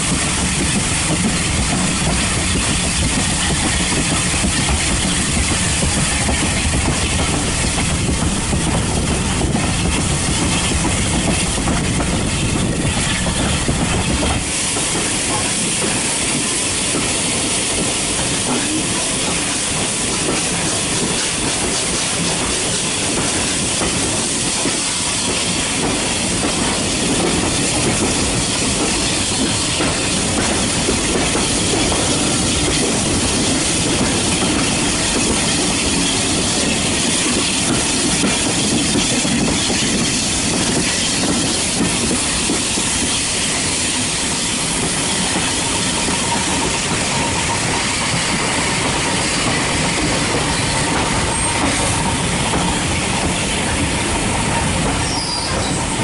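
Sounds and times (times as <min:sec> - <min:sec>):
train wheels rattling on track: 0:00.0 - 0:56.0.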